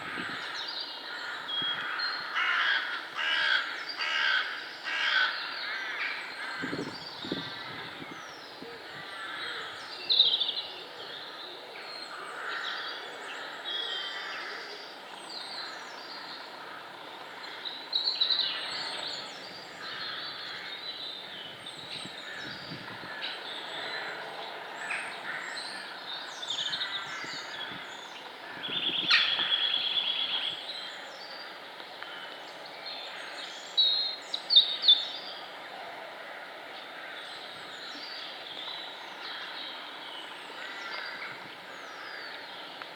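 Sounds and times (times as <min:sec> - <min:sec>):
songbirds singing: 0:03.7 - 0:35.5, 0:36.7 - 0:42.9.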